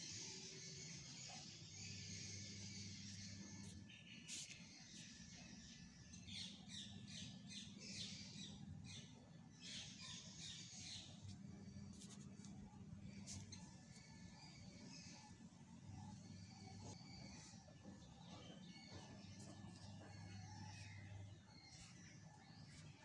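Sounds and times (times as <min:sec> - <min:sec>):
birds chirping faintly: 0:00.0 - 0:23.0.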